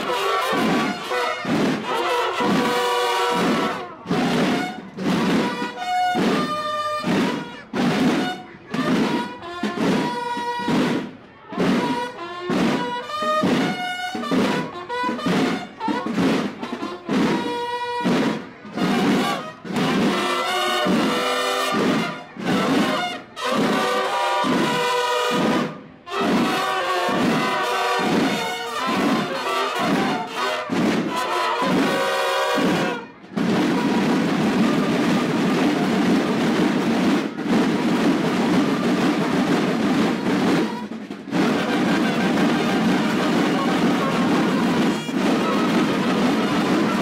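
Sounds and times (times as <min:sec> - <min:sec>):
brass horns playing: 0:00.0 - 0:10.8, 0:11.5 - 0:36.4, 0:38.0 - 0:47.0
snare and bass drums: 0:00.0 - 0:47.0.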